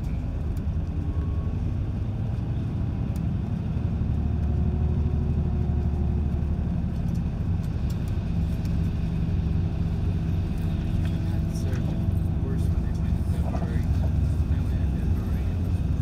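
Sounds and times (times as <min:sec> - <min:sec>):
bus engine and tyres rumbling: 0:00.0 - 0:16.0.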